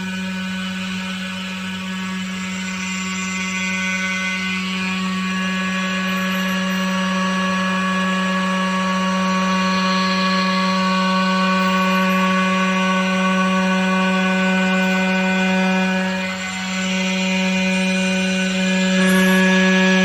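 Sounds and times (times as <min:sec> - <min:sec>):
machine whine: 0:00.0 - 0:20.0.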